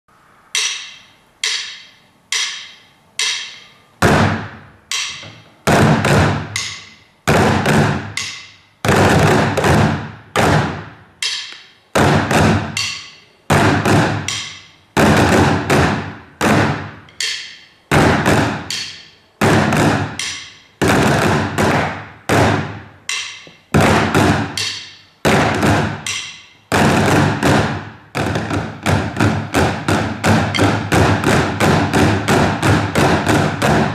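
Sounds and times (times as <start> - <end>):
percussion ensemble playing: 0.6 - 33.9.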